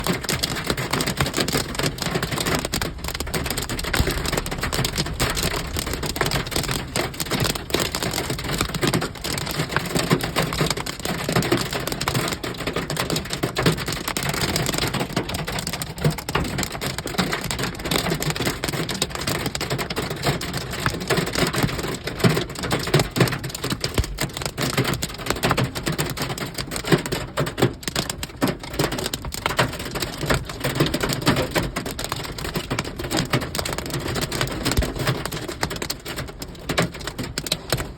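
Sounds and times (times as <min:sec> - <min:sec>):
hail striking hard surfaces: 0:00.0 - 0:37.9
heavy rain: 0:00.0 - 0:37.9.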